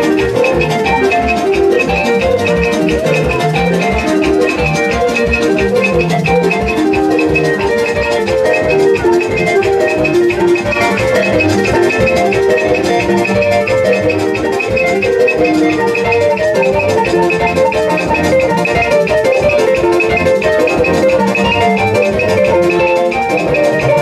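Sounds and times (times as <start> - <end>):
loud music with drum beat: 0.0 - 24.0.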